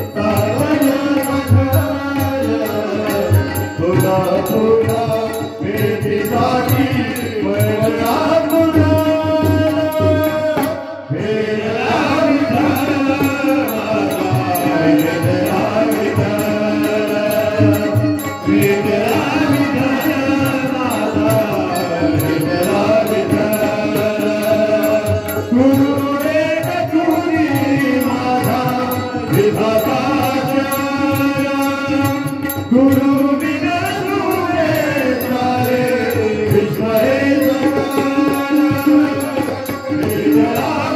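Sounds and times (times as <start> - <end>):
percussion beat: 0.0 - 40.9
person singing devotional song: 0.0 - 40.9.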